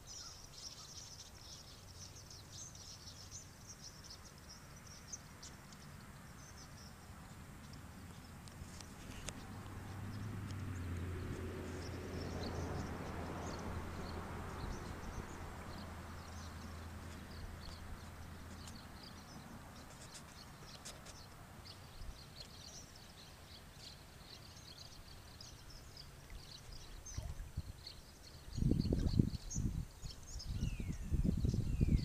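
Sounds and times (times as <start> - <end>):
flock of birds chirping: 0.0 - 32.0.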